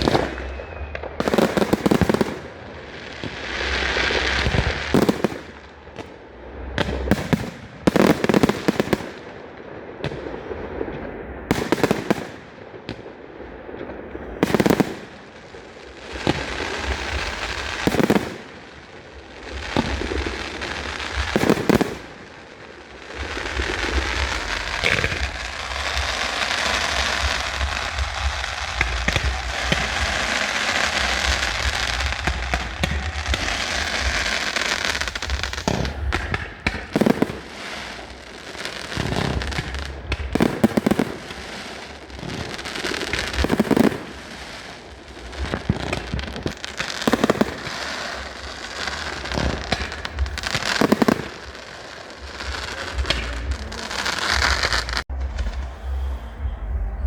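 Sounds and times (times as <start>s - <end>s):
fireworks crackling: 0.0s - 57.0s
loud firework bangs: 0.0s - 57.0s.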